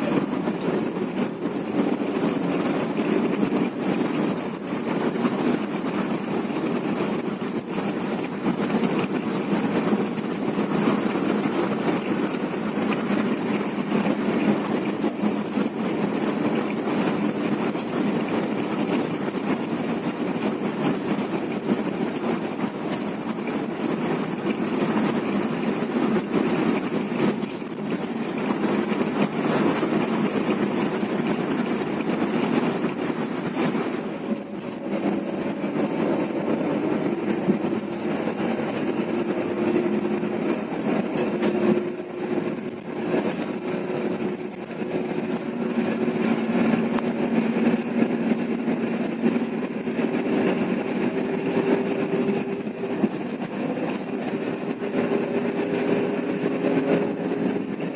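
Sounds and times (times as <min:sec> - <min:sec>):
bus engine and road noise: 0:00.0 - 0:57.9.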